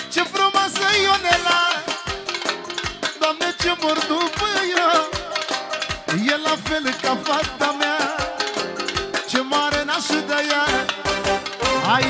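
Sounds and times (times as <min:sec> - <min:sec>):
ornamented lead melody: 0:00.0 - 0:12.0
steady drum beat: 0:00.0 - 0:12.0.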